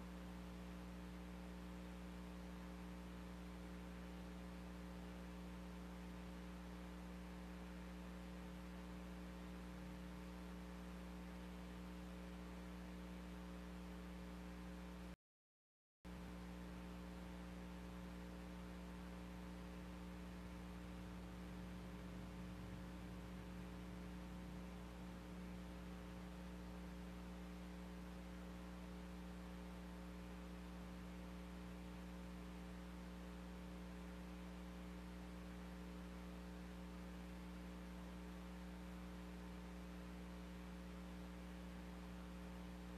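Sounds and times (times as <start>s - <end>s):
low electrical hum: 0.0s - 15.2s, 16.1s - 42.9s.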